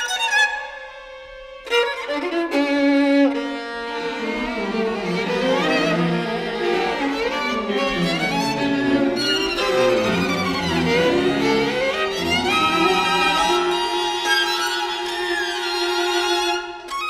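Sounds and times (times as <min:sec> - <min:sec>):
solo violin: 0:00.0 - 0:17.0
string orchestra bowed notes: 0:00.0 - 0:17.0.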